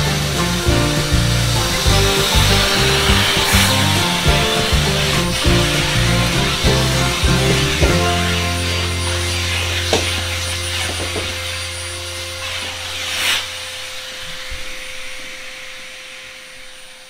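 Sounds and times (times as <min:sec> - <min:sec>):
airflow hiss through hose: 0:00.0 - 0:17.0
vacuum motor running: 0:00.0 - 0:17.0.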